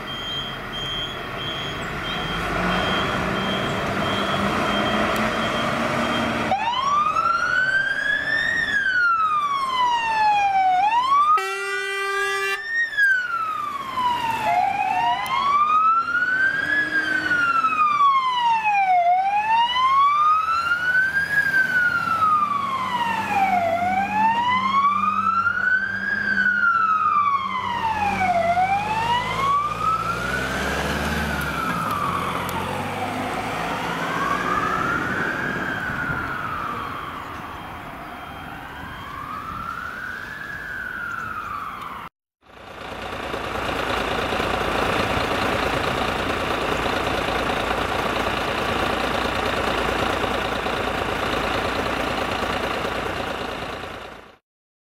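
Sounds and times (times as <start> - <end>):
diesel engine rumble: 0.0 - 11.1, 13.0 - 54.4
fire engine siren wailing: 0.0 - 54.4.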